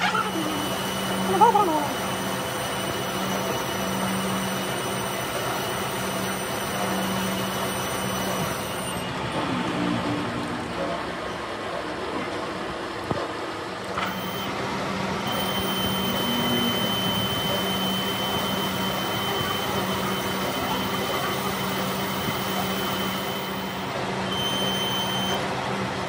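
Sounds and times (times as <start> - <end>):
high whine of cutting tool: 0.0 - 9.5, 14.0 - 25.4
lathe motor hum: 0.0 - 10.8, 13.9 - 26.0.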